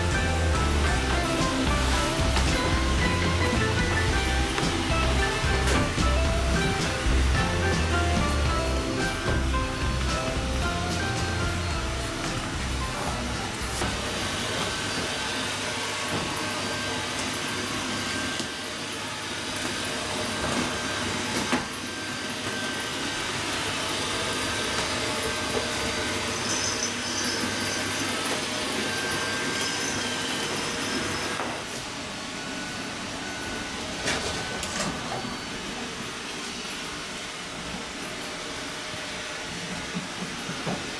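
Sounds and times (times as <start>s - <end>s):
robot vacuum whirring: 0.0s - 40.9s.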